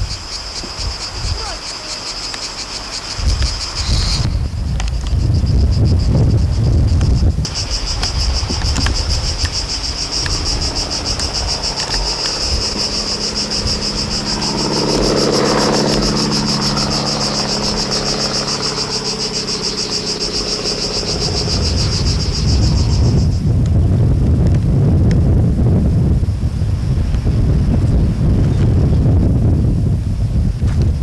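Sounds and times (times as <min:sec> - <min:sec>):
insect chorus buzzing: 0:00.0 - 0:31.0
low hum: 0:03.3 - 0:31.0.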